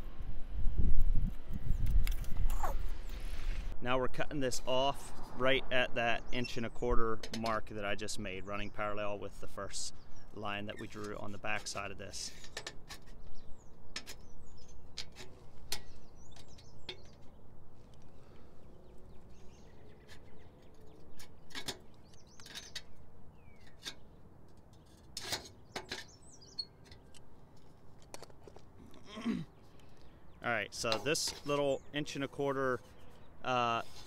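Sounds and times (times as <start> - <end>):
birds chirping: 6.1 - 34.0.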